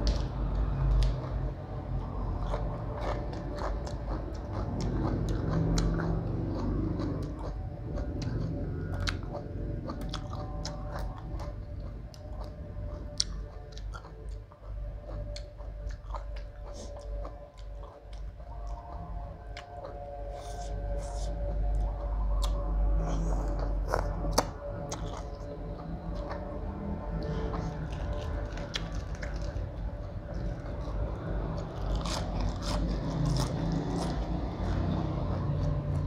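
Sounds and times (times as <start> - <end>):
person chewing and crunching: 0.0 - 36.0.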